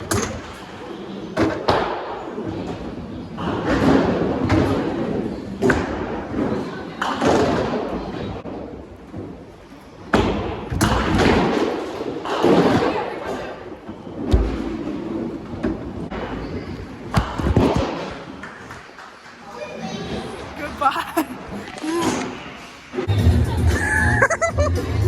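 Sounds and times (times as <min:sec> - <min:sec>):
noisy background: 0:00.0 - 0:25.0.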